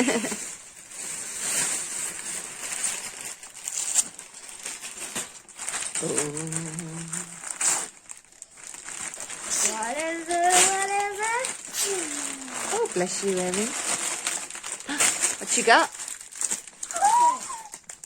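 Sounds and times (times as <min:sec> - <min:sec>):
wrapping paper rustling and tearing: 0:00.0 - 0:18.0.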